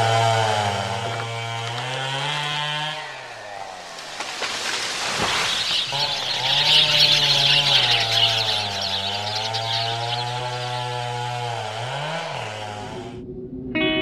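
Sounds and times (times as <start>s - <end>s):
chainsaw running: 0.0s - 13.1s.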